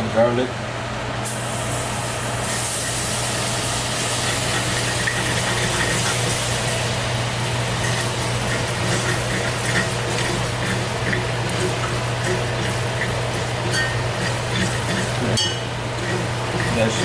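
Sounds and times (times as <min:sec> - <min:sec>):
garlic sizzling in oil: 0:01.2 - 0:17.0.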